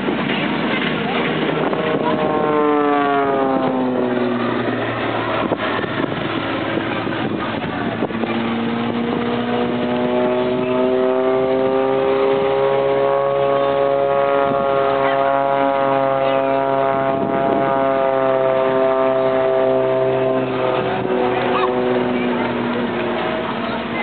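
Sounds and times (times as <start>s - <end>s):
propeller aircraft engine passing: 0.0s - 24.0s.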